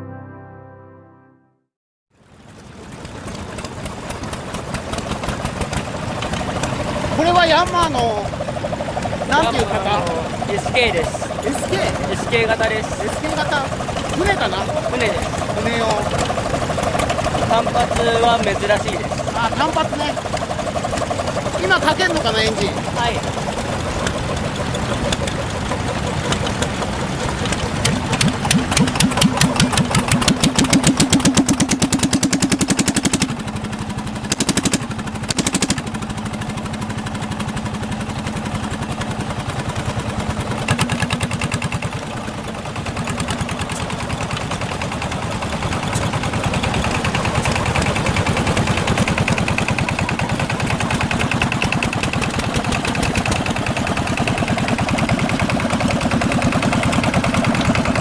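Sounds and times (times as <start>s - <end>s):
diesel engine running: 2.2s - 58.0s.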